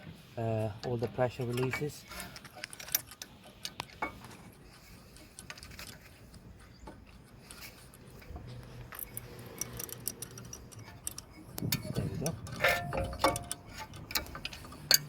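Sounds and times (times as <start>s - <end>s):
hand tools clicking on metal: 0.8s - 15.0s.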